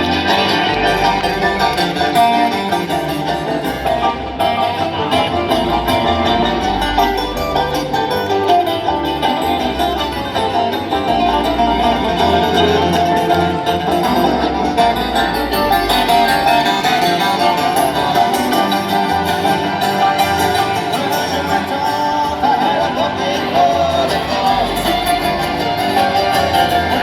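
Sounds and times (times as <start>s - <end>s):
acoustic guitar picking: 0.0s - 27.0s
banjo: 0.0s - 27.0s
bass line: 0.0s - 27.0s
fiddle: 0.0s - 27.0s.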